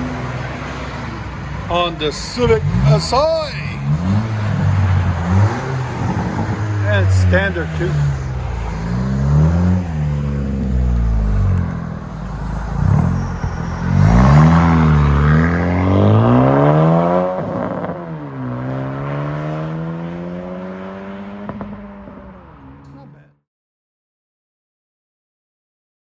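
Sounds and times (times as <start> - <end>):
car engine accelerating hard: 0.0 - 23.3.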